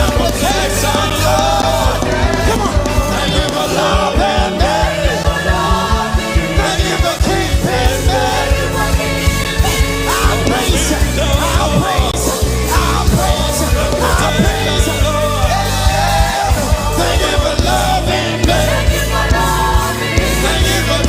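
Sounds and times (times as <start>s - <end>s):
drums: 0.0s - 21.0s
gospel band playing: 0.0s - 21.0s
people singing: 0.0s - 21.0s.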